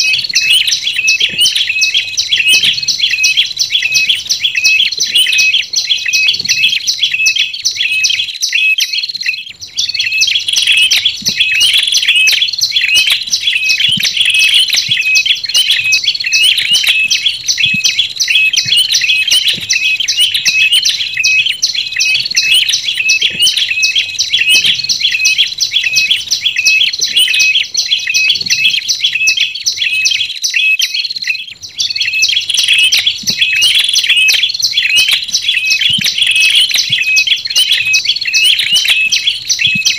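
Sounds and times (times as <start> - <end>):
birds chirping high-pitched: 0.0 - 39.9.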